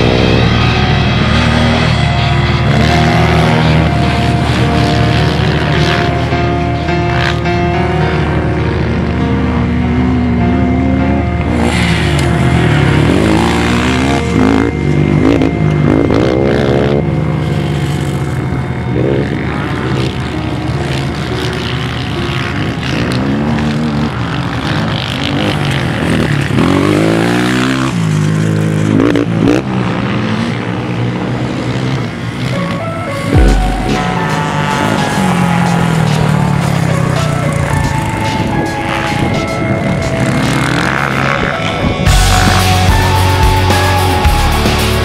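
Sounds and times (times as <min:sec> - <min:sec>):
racing engines revving: 0:00.0 - 0:45.0.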